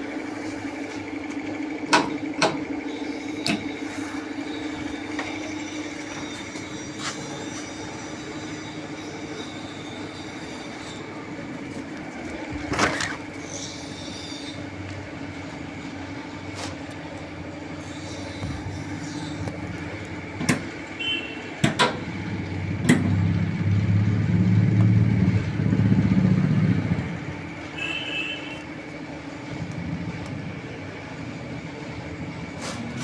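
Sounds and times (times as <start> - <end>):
cnc router humming and whining: 0.0 - 32.5.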